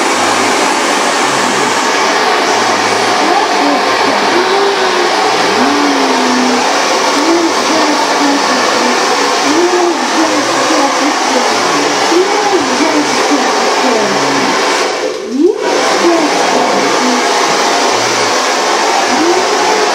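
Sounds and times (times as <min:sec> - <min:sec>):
hair dryer blowing: 0:00.0 - 0:19.9.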